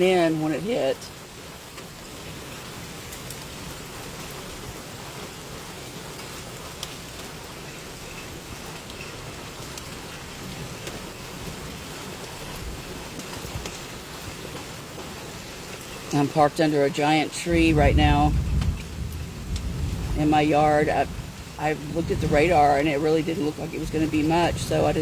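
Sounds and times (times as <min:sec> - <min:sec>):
rain drumming on truck: 0:00.0 - 0:25.0.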